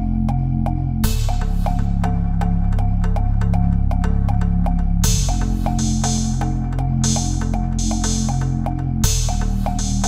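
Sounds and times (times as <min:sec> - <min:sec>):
electronic music with ticking beat: 0:00.0 - 0:10.0.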